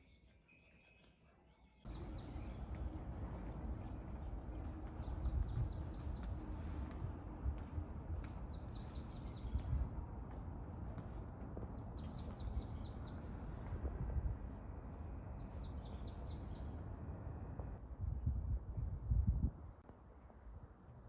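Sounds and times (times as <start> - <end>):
low background rumble: 1.9 - 19.8.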